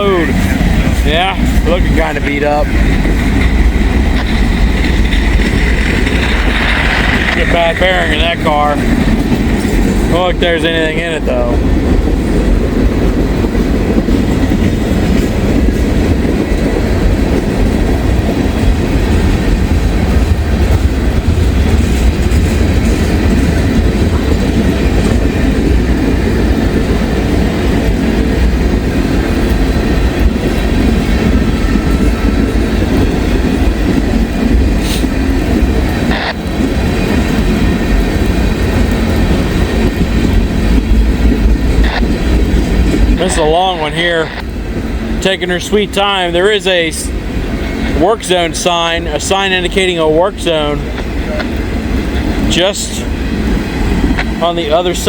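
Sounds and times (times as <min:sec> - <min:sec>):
freight train rumbling past: 0:00.0 - 0:55.0
wheels clacking over rail joints: 0:00.0 - 0:55.0.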